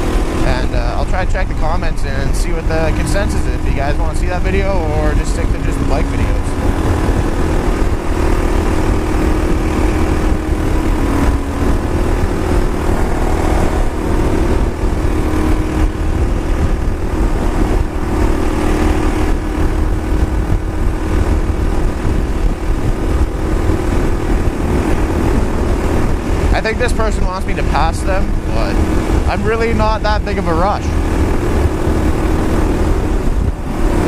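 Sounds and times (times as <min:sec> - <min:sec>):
motorcycle engine cruising: 0:00.0 - 0:34.0
wind rumble on microphone: 0:00.0 - 0:34.0.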